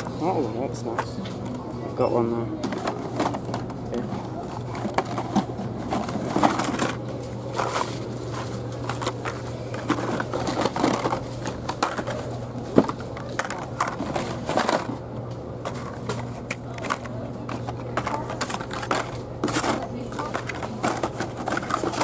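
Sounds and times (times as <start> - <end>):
steady low hum: 0.0 - 22.0
plastic packaging clicks and rustles: 2.6 - 15.0, 15.6 - 22.0.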